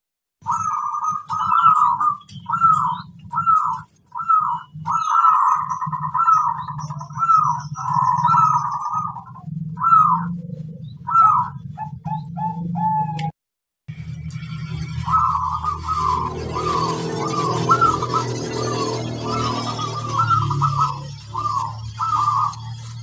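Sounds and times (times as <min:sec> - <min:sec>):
dove cooing: 0:00.4 - 0:13.3, 0:15.0 - 0:23.0.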